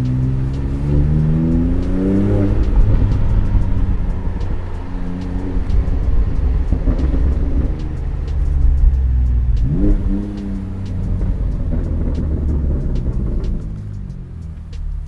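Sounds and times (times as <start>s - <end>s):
car exhaust revving: 0.0s - 15.0s.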